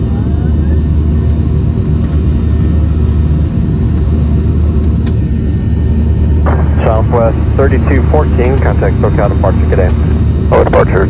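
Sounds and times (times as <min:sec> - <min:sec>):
jet cabin rumble during takeoff: 0:00.0 - 0:11.0.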